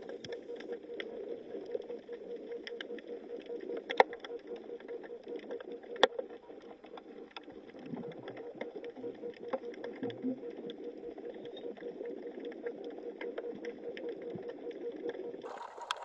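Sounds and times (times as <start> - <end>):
faint clicks and crackles: 0.0 - 16.0.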